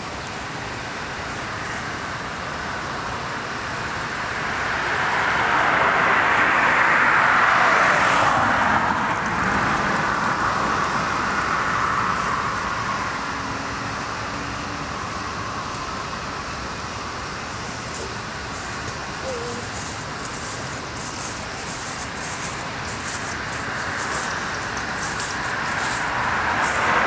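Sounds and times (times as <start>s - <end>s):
background traffic noise: 0.0s - 27.0s
vehicle passing on road: 1.4s - 27.0s.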